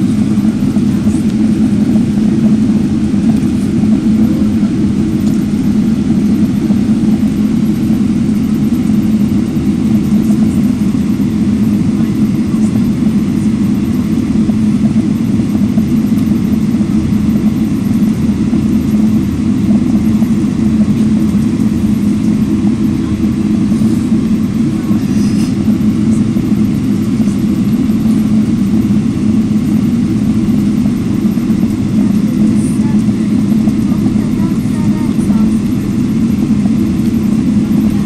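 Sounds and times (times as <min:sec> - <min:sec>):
aircraft cabin noise: 0:00.0 - 0:38.0
airliner engines droning: 0:00.0 - 0:38.0.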